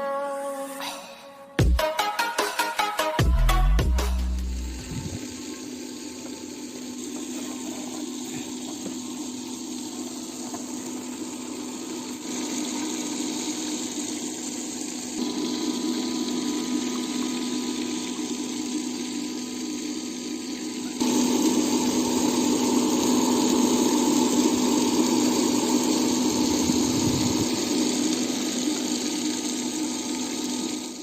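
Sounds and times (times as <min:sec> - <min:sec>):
vacuum cleaner fan humming: 0:00.0 - 0:31.0.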